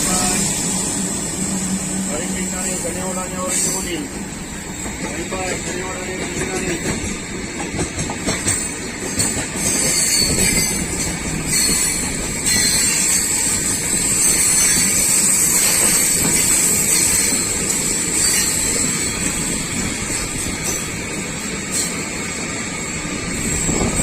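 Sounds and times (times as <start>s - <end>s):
train rolling rumble: 0.0s - 24.0s.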